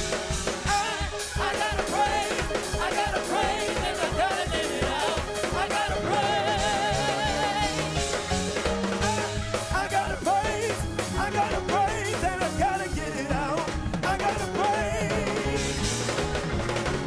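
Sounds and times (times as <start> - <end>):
voices singing with vibrato: 0.0 - 16.2
bass: 0.0 - 17.0
drum kit: 0.0 - 17.0.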